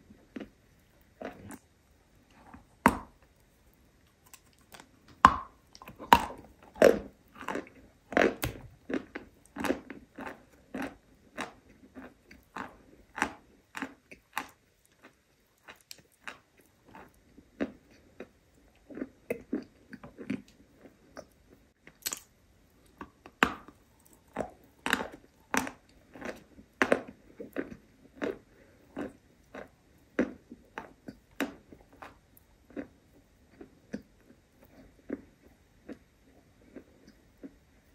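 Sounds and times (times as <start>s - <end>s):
chewing: 0.1s - 1.7s, 2.3s - 37.6s.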